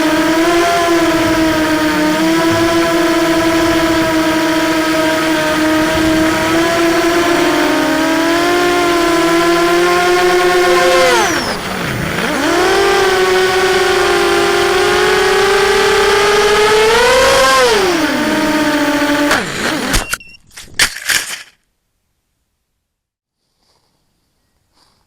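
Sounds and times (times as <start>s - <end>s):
drone propellers whining: 0.0s - 20.2s.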